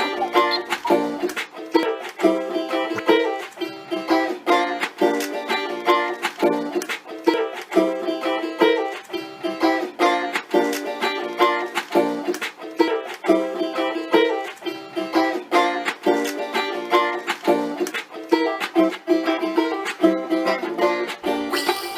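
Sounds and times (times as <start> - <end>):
plucked string music: 0.0 - 21.9.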